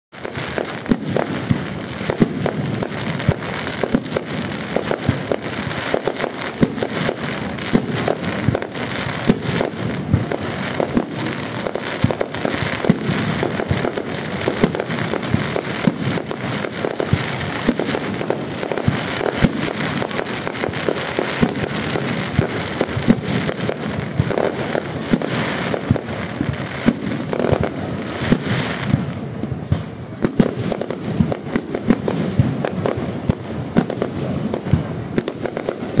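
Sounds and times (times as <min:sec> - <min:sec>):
fireworks bursting and crackling: 0:00.1 - 0:36.0
fireworks whistling: 0:00.1 - 0:36.0.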